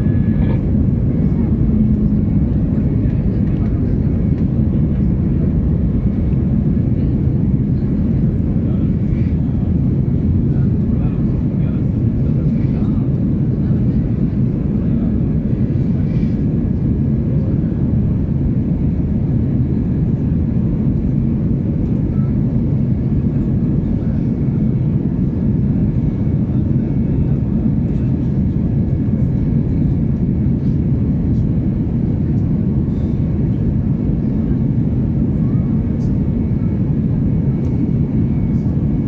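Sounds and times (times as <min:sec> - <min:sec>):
airplane cabin drone: 0:00.0 - 0:39.0.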